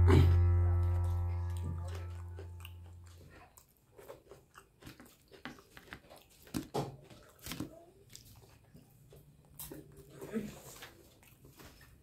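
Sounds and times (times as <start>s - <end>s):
chewing: 1.4s - 12.0s.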